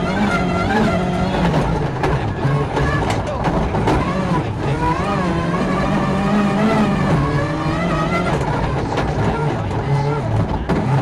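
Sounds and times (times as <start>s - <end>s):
rally car engine from cockpit: 0.0s - 11.0s.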